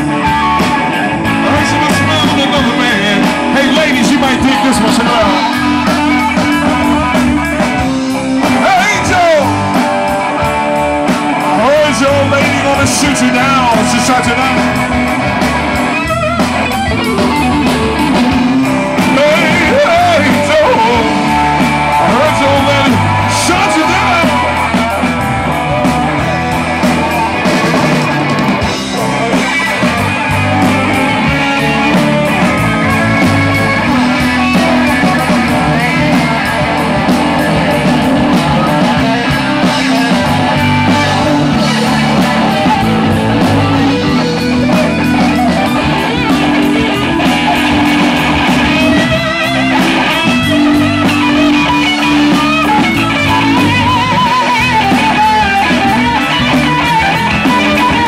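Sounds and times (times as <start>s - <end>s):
electric guitars: 0.0s - 58.0s
live blues rock band: 0.0s - 58.0s
person singing: 0.1s - 10.5s, 17.0s - 58.0s.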